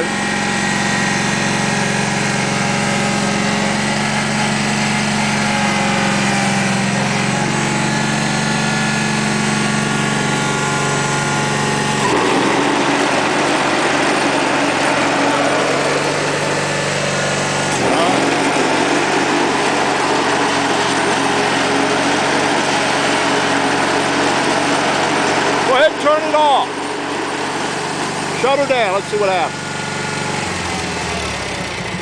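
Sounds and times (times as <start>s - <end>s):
garden tractor engine running: 0.0s - 32.0s.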